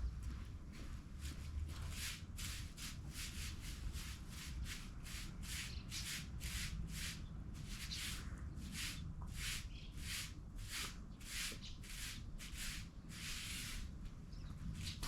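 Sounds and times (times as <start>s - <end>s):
broom sweeping: 1.2s - 14.0s.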